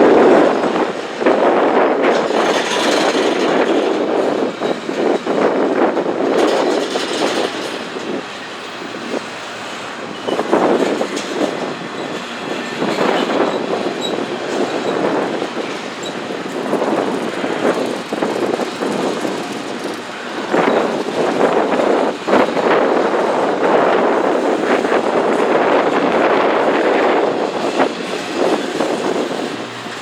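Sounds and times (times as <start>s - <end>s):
train wheels rumbling and clacking: 0.0s - 30.0s.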